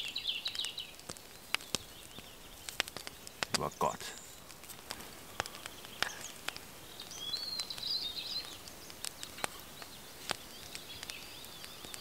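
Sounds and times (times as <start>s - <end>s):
forest ambience: 0.0s - 12.0s
sharp crackles: 0.0s - 12.0s.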